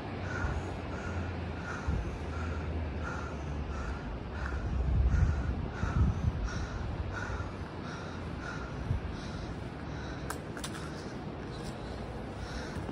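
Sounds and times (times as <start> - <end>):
crow cawing: 0.2 - 11.1, 12.4 - 12.9.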